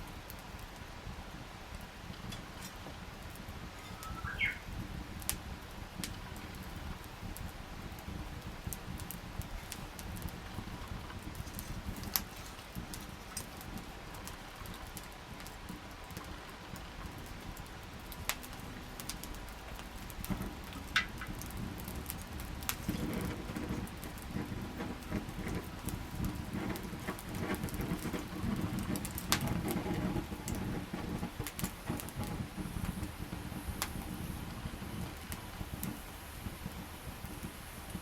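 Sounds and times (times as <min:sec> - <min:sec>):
campfire crackling: 0:00.0 - 0:38.0
low rush of flame: 0:00.0 - 0:38.0.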